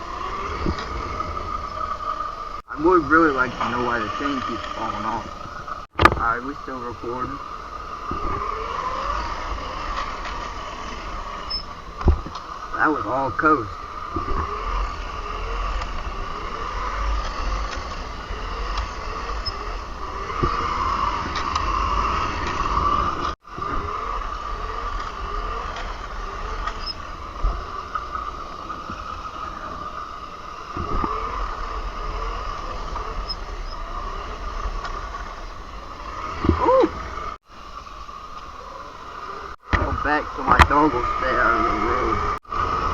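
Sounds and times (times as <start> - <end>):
wind rumble on microphone: 0.0 - 37.4
electric motor whining: 0.0 - 42.9.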